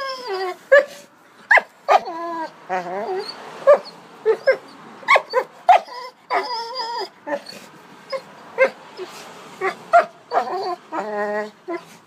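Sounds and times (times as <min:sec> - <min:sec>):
dog whining: 0:00.0 - 0:12.0.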